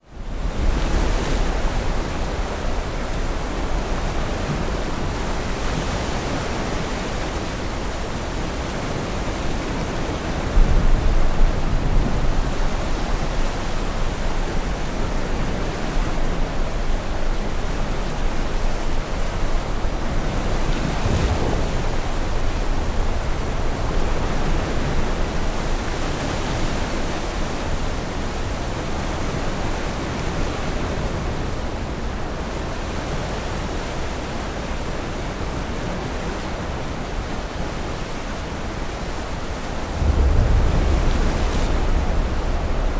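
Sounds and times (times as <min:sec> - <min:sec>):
rushing wind with rumbling surges: 0:00.0 - 0:42.9.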